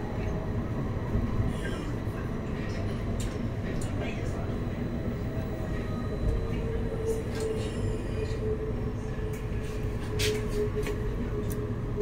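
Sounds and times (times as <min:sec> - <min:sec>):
tram electric whine: 0:00.0 - 0:12.0.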